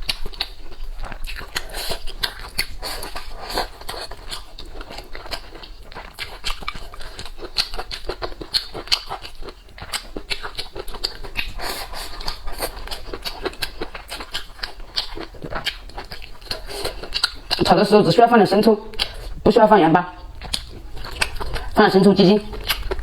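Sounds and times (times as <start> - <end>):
chewing and lip-smacking: 0.0 - 23.0.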